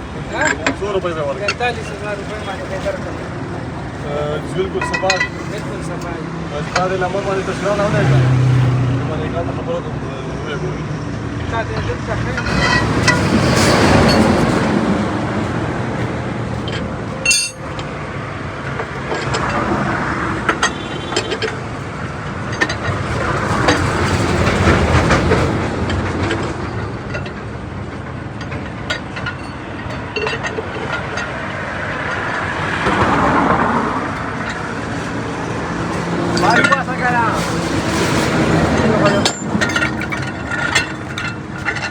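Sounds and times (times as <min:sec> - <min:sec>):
vehicles passing on road: 0:00.0 - 0:41.9.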